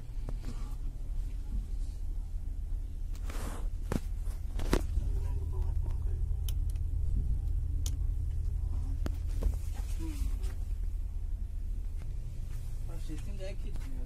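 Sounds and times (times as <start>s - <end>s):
train rumble from inside coach: 0.0s - 14.0s.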